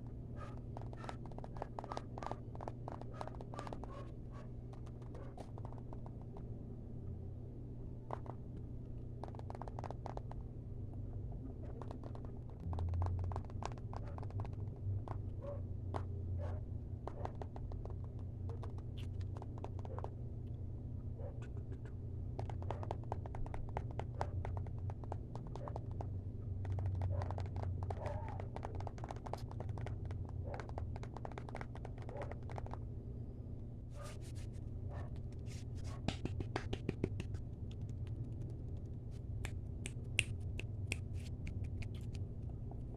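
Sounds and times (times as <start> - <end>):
steady low hum: 0.0 - 42.9
tapping and scratching on microphone: 0.4 - 6.5, 8.0 - 8.6, 9.2 - 15.3, 17.0 - 20.2, 21.3 - 32.9, 33.9 - 42.9.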